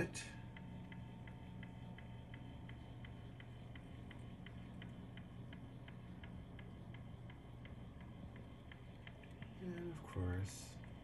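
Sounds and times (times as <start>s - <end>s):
low steady hum: 0.0s - 11.0s
turntable motor ticking: 0.0s - 11.0s.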